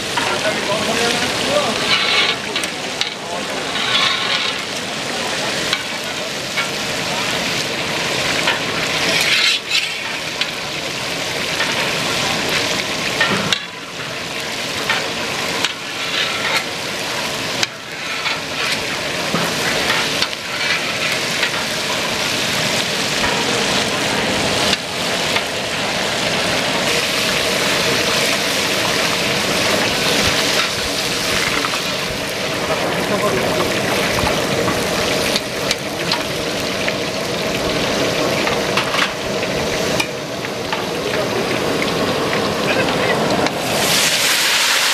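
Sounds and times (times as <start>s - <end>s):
chicken sizzling in hot oil: 0.0s - 44.9s
metal utensils stirring oil: 0.0s - 44.9s.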